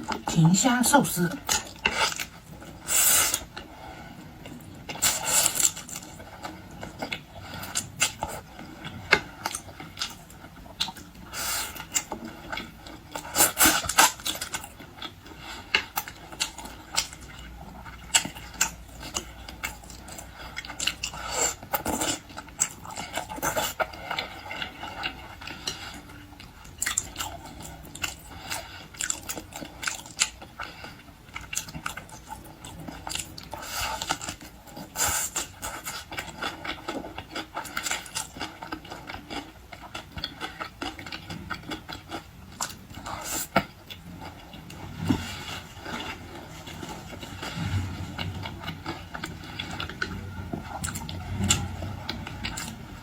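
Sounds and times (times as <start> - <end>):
wet chewing and lip smacking: 4.4 - 53.0.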